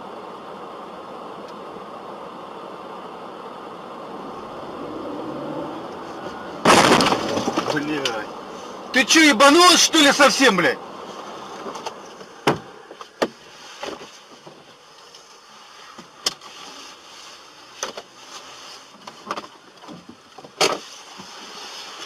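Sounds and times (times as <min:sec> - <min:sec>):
car road noise: 0:00.0 - 0:22.0.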